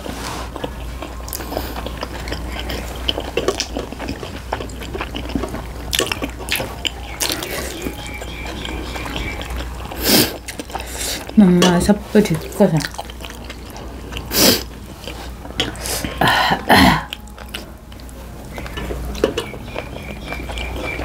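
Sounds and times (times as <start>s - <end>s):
wet chewing mouth sounds: 0.0s - 21.0s.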